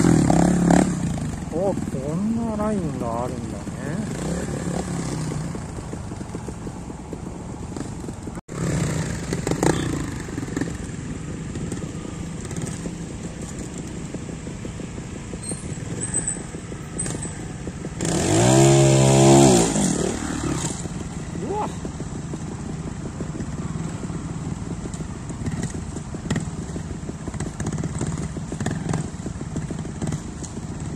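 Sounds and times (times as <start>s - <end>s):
motorcycle engine with throttle blips: 0.0s - 30.9s.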